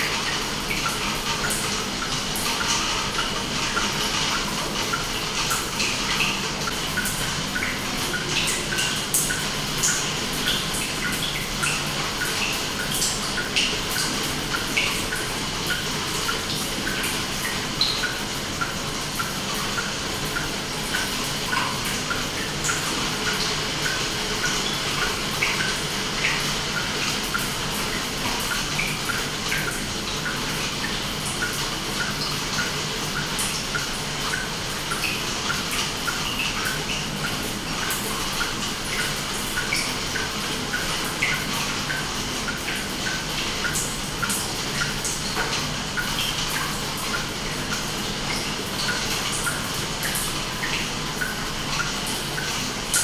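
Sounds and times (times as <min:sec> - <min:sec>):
water dripping: 0:00.0 - 0:53.0.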